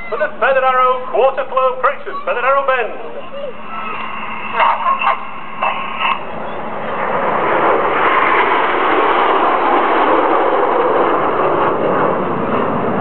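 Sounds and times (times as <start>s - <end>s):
jets flying past: 0.1s - 13.0s.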